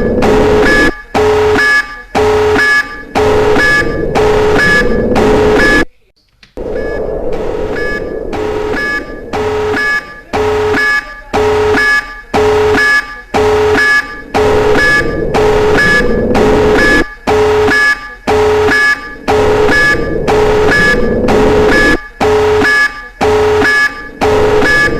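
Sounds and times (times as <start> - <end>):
electronic two-tone alarm: 0.0 - 5.8, 6.6 - 24.9.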